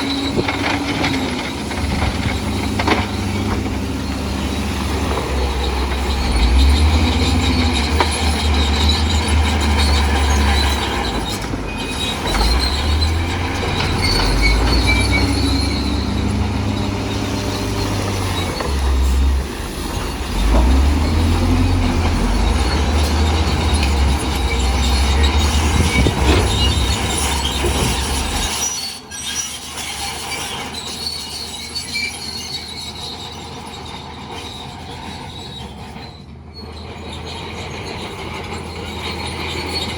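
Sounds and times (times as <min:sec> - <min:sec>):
diesel engine under load: 0:00.0 - 0:39.9
steel tracks squeaking and clanking: 0:00.0 - 0:39.9.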